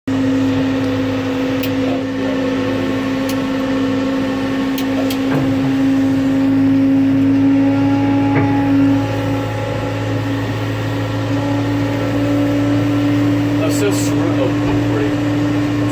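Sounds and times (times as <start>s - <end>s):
tug engine drone: 0.1s - 15.9s.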